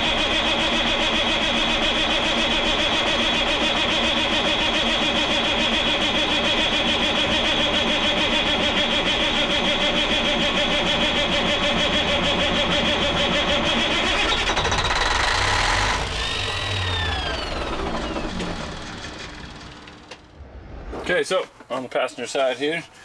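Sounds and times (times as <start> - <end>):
diesel engine cranking on starter: 0.0 - 20.4
starter whine: 0.0 - 20.6.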